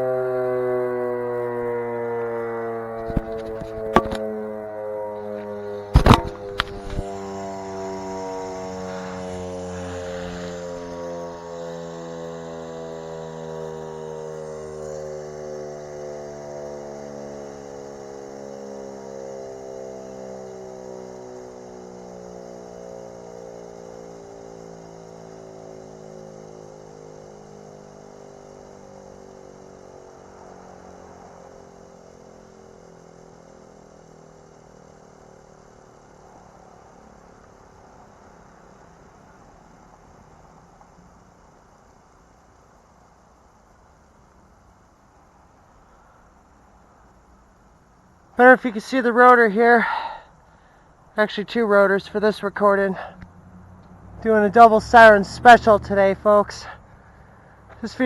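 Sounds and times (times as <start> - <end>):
electromechanical siren winding down: 0.0 - 46.5, 48.4 - 58.0.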